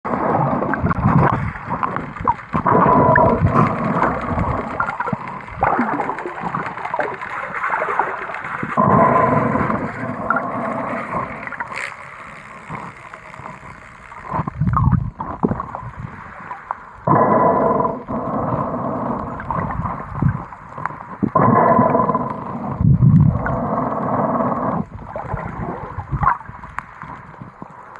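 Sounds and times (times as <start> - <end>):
water gurgling underwater: 0.0 - 27.9
faint hum: 0.1 - 27.9.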